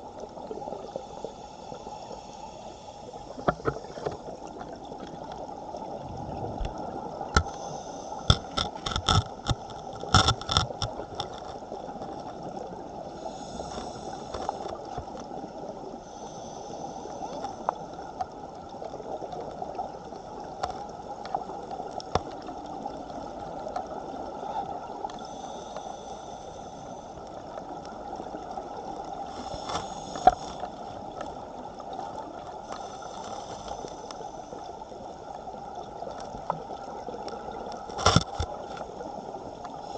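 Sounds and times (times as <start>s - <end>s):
underwater rush of water: 0.0s - 39.9s.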